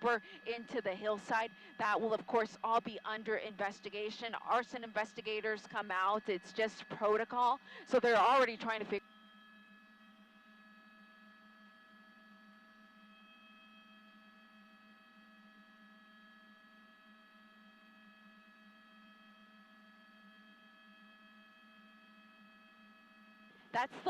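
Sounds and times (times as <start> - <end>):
faint electronic hum: 0.0 - 24.0.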